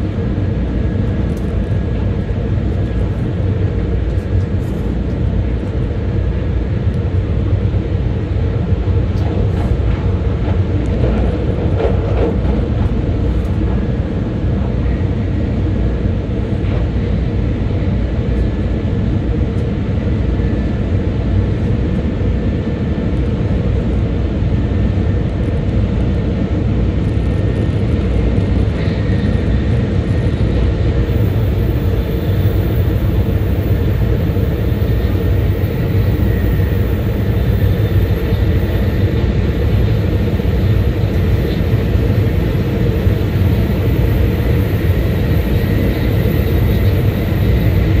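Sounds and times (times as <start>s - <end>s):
high-speed train rumble: 0.0s - 48.0s.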